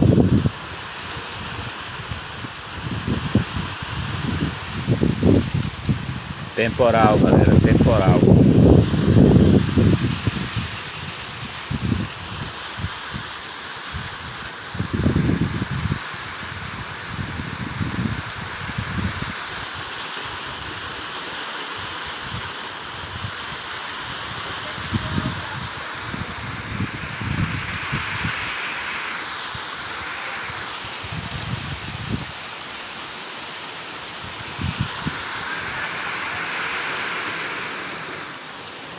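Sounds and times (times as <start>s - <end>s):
heavy rain downpour: 0.0s - 38.9s.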